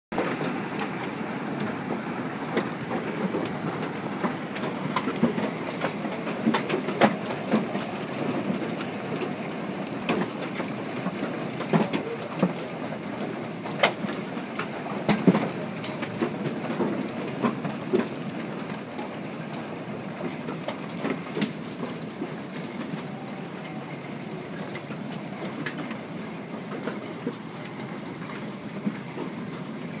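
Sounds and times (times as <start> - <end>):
hailstones and rain pelting pavement: 0.2 - 30.0.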